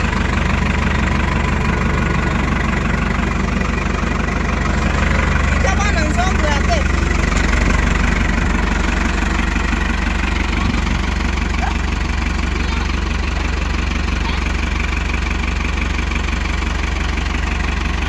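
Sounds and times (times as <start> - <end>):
tractor engine humming: 0.0 - 18.0.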